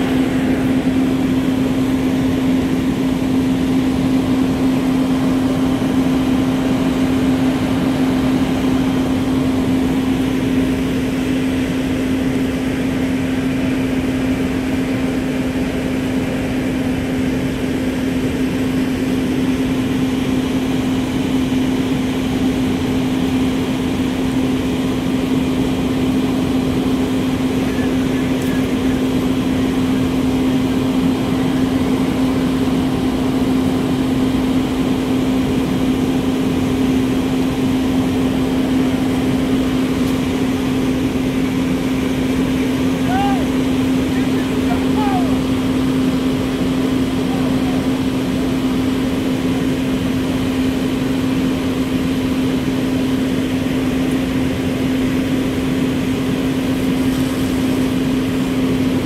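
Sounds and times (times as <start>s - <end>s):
fire engine running: 0.0s - 59.0s.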